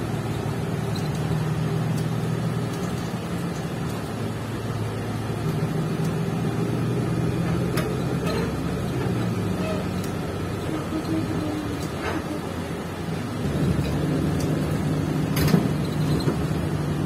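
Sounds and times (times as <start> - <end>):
bus engine humming: 0.0 - 17.0
road noise: 0.0 - 17.0.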